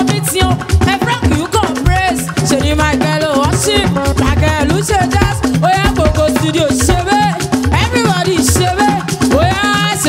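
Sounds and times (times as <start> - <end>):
gospel music with voices singing: 0.0 - 10.0
talking drums: 0.0 - 10.0.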